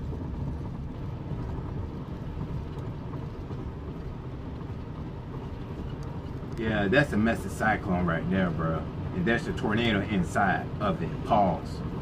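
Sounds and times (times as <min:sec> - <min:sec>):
vehicle driving rumble from inside: 0:00.0 - 0:12.0.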